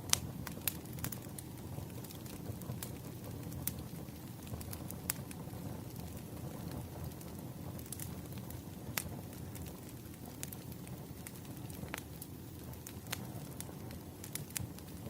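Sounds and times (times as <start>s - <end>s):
fire low rumble: 0.0s - 15.0s
firewood crackling pops: 0.0s - 15.0s.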